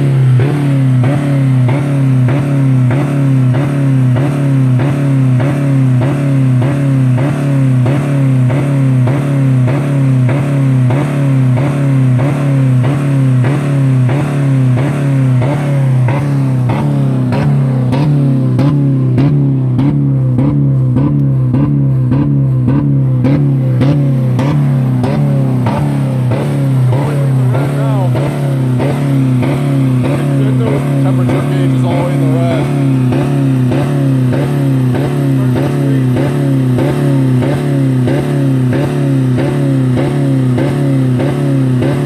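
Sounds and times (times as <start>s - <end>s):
car engine pulsing at high revs: 0.0s - 42.0s.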